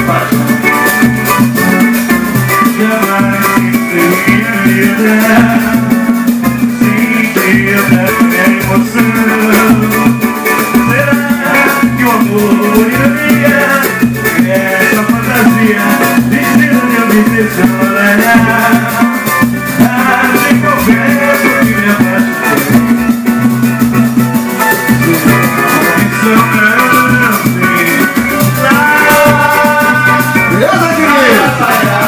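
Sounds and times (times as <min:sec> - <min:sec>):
cavaquinho and guitar strumming: 0:00.0 - 0:32.0
hand drum beat: 0:00.0 - 0:32.0.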